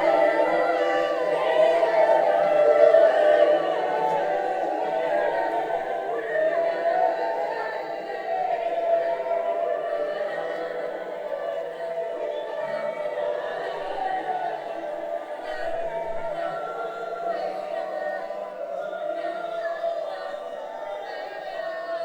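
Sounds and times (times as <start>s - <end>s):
choir singing unaccompanied: 0.0s - 22.0s.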